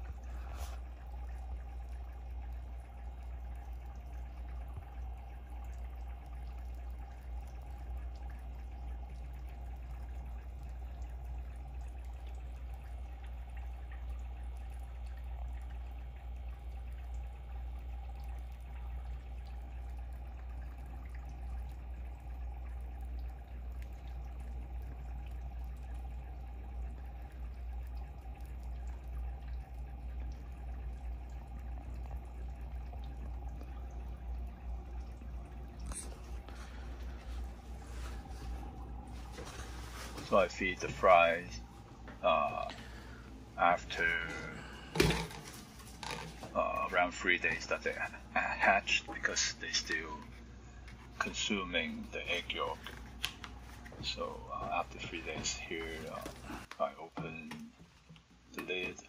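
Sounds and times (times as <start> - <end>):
steady low hum: 0.0 - 59.0
water bubbling and trickling: 0.0 - 59.0.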